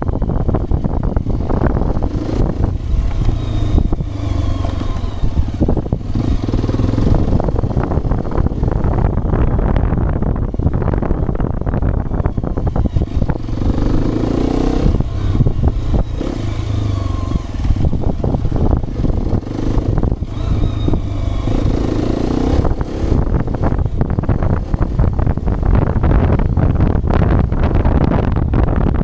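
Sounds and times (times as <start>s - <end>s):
motorcycle engine: 0.0s - 29.0s
motorcycle rattles and knocks: 0.0s - 29.0s
wind on microphone: 0.0s - 29.0s.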